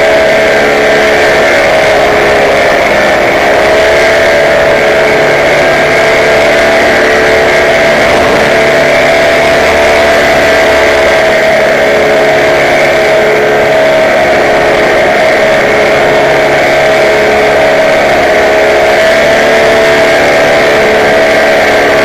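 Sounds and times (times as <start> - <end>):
paramotor engine drone: 0.0 - 22.0.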